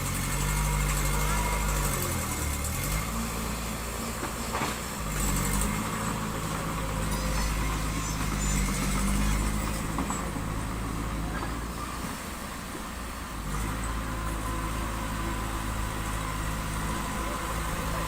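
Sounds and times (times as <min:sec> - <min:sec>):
construction machine diesel engine: 0:00.0 - 0:18.0.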